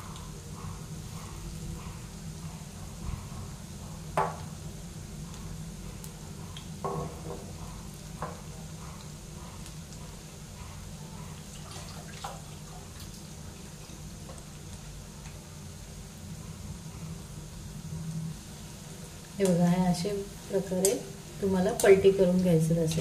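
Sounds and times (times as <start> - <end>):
deep-frying sizzle with pops: 0.0 - 23.0.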